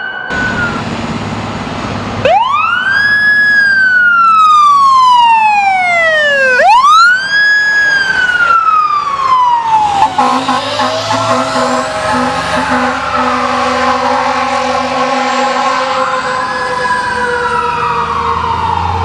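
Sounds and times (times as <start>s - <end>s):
emergency vehicle siren wailing: 0.0s - 19.0s.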